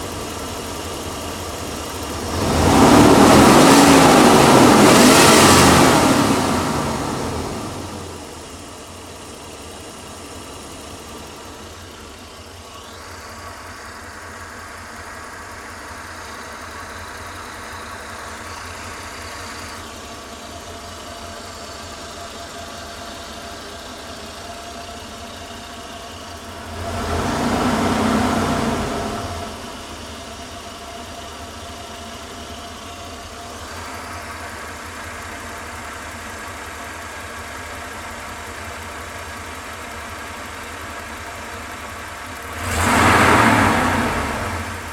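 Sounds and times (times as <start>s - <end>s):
van engine idling: 0.0s - 44.9s.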